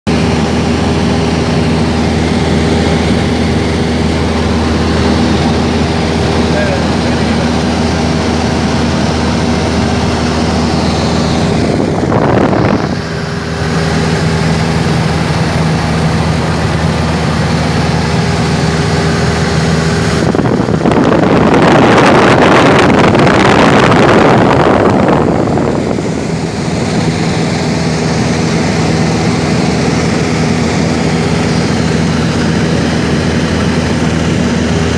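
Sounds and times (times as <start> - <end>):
light aircraft engine and propeller: 0.1 - 34.9
rush of wind: 0.1 - 34.9.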